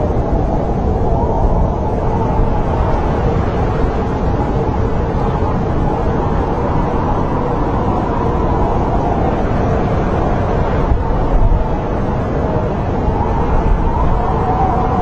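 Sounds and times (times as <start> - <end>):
wind rushing and whistling: 0.0 - 15.0.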